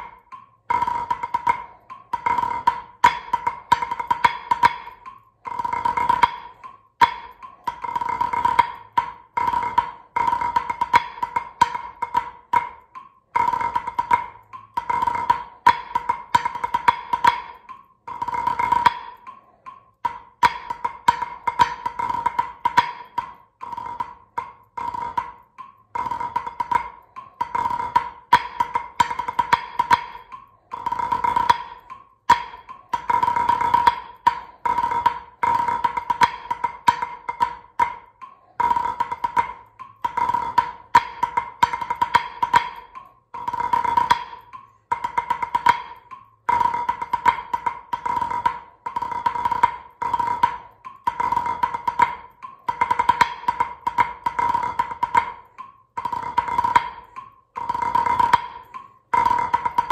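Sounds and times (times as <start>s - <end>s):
drumsticks on practice pad: 0.0s - 59.9s.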